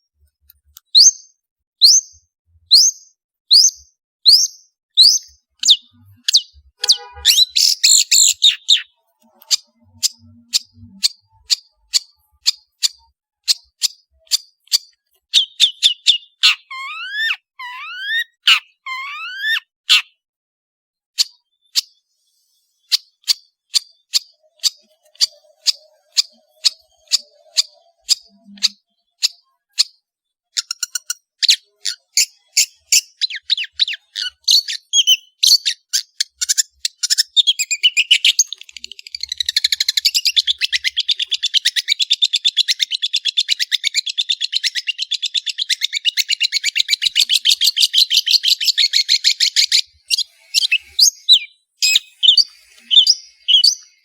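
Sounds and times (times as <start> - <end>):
bird singing and chattering: 0.0 - 20.2, 21.2 - 54.0.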